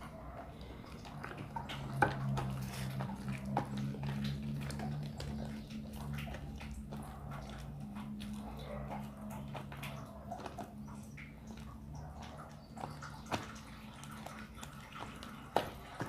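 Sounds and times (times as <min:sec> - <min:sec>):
low steady hum: 0:00.0 - 0:16.0
slime squelching: 0:00.0 - 0:16.0.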